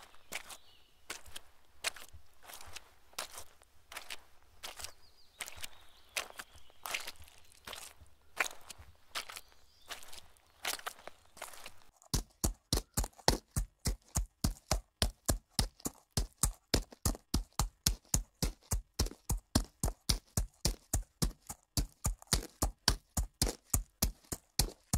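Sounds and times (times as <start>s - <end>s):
fast footsteps on dirt: 0.0s - 24.9s.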